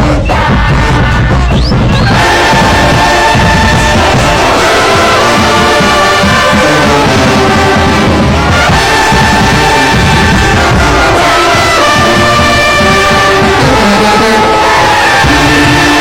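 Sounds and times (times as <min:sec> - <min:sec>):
brass band music: 0:00.0 - 0:16.0.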